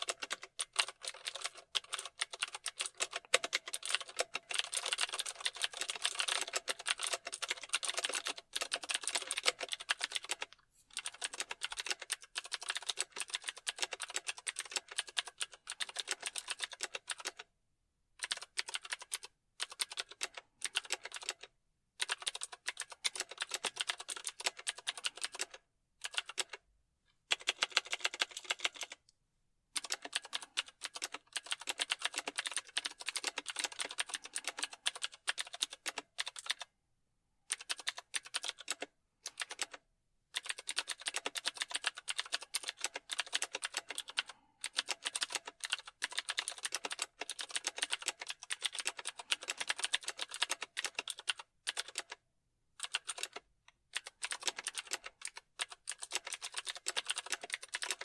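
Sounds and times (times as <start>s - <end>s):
typing on a computer keyboard: 0.0s - 17.5s, 18.2s - 26.6s, 27.3s - 29.1s, 29.8s - 36.7s, 37.5s - 52.2s, 52.8s - 58.0s.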